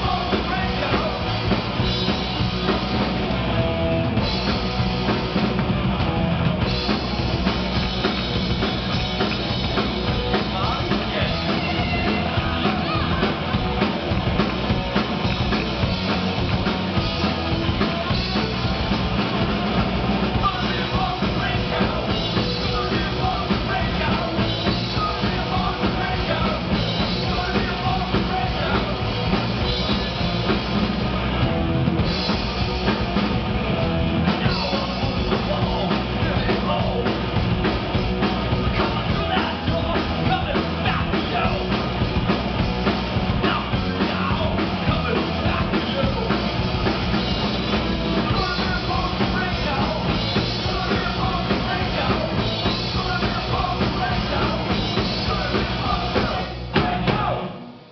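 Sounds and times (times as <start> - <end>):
punk rock band playing live: 0.0 - 57.9.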